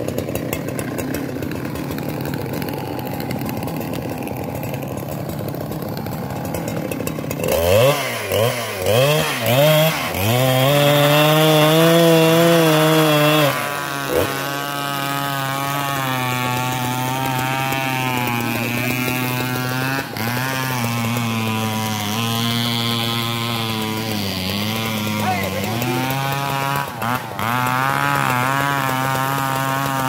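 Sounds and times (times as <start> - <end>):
chainsaw idling and revving: 0.0 - 30.0.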